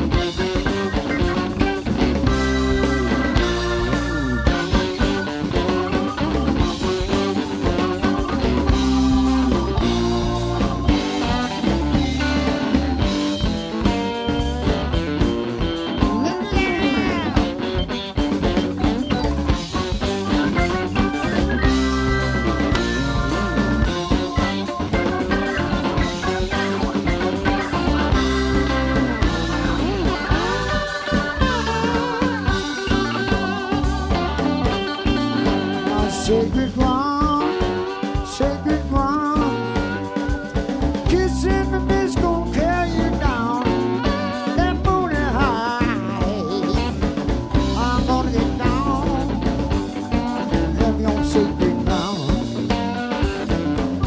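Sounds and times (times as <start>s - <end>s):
drum kit: 0.0s - 54.0s
electric bass: 0.0s - 54.0s
electric guitar lead lines: 0.0s - 54.0s
keyboards: 0.0s - 54.0s.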